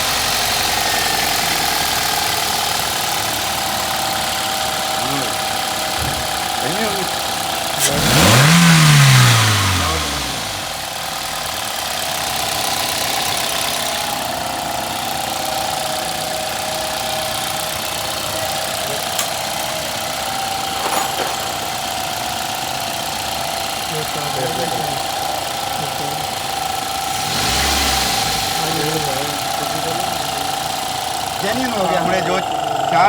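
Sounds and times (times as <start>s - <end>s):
car engine idling: 0.0s - 33.0s
car engine revving: 0.0s - 33.0s.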